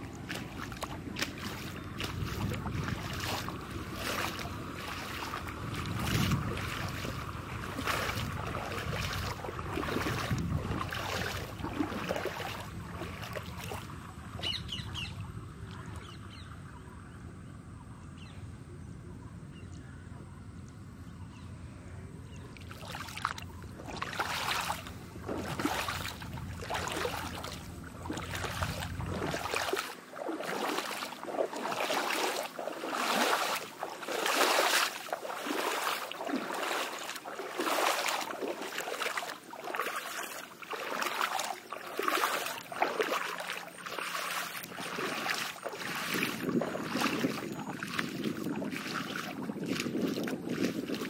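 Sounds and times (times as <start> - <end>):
water splashing rhythmically: 0.0 - 16.4, 22.5 - 51.0.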